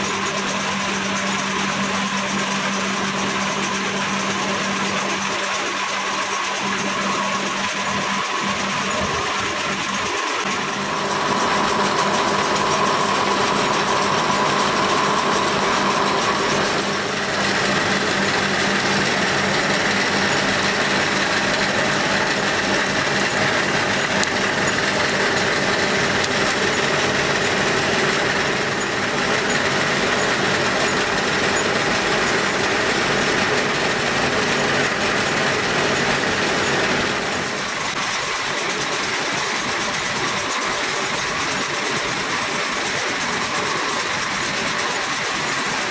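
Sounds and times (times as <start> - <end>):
machine drone with whine: 0.0 - 45.9.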